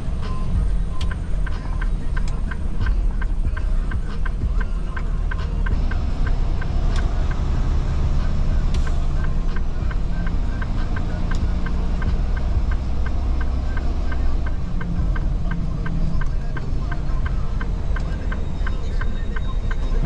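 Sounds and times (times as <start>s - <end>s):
diesel truck engine running: 0.0s - 20.0s
light ticking: 0.1s - 7.5s, 8.2s - 20.0s.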